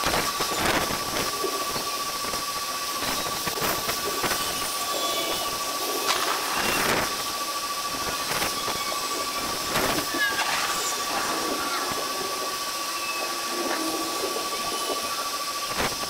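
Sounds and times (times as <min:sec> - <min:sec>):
rapid flickering clicks: 0:00.0 - 0:16.0
sped-up storm hissing rush: 0:00.0 - 0:16.0.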